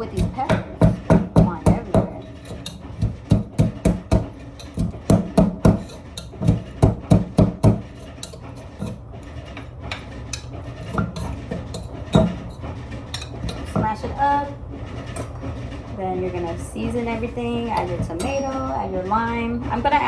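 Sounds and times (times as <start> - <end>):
pestle pounding in a mortar: 0.0 - 14.2, 16.5 - 18.6.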